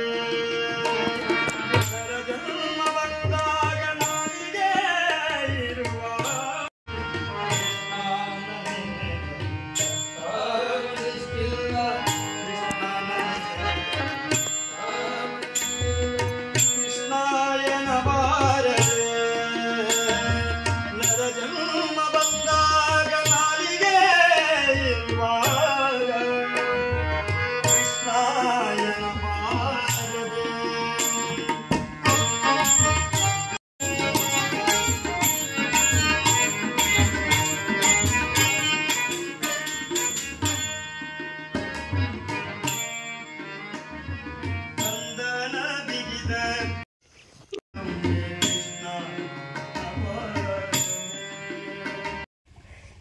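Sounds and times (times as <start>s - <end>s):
harmonium melody: 0.0s - 46.9s, 47.8s - 52.3s
tabla rhythm: 0.0s - 46.9s, 47.8s - 52.3s.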